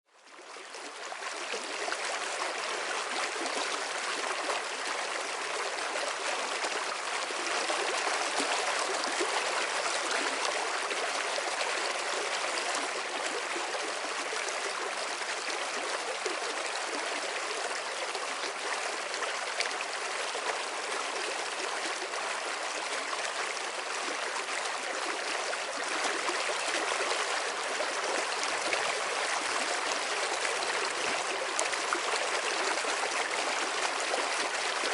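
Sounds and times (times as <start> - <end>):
stream water running over rocks: 0.6 - 34.9.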